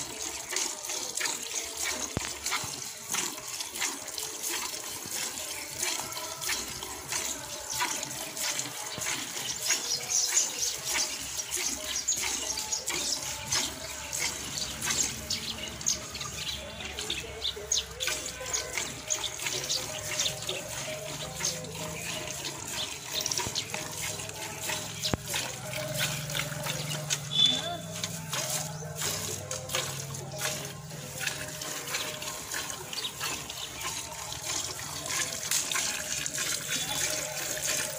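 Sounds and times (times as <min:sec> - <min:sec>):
milk squirting into steel bucket: 0:00.0 - 0:37.9.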